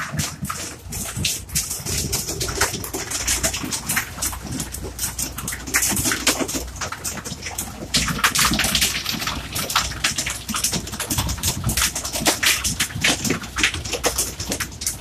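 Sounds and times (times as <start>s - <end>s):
water splashing against boat hull: 0.0s - 15.0s.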